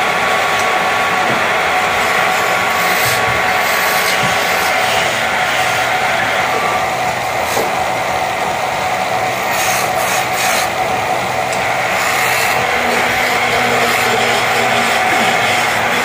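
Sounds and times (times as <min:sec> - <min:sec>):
lathe motor hum: 0:00.0 - 0:16.0
tool scraping spinning wood: 0:00.6 - 0:08.2, 0:09.2 - 0:16.0.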